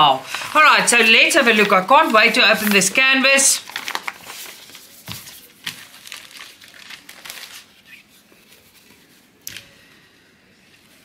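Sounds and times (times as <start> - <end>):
canvas crinkling and rustling: 0.0 - 9.1.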